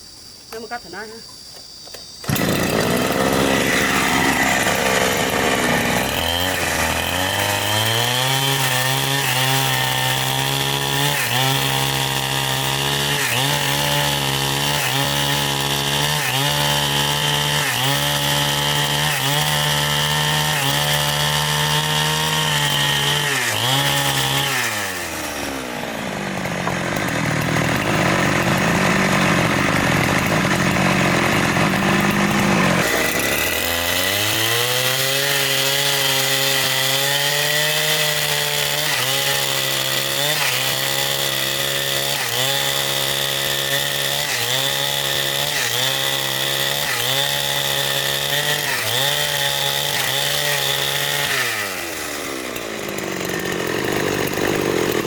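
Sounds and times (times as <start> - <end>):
chainsaw cutting wood: 0.5 - 55.0.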